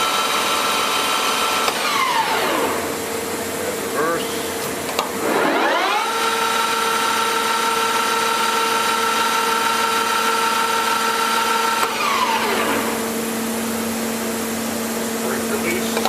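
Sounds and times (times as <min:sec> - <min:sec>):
lathe gear whine: 0:00.0 - 0:16.0.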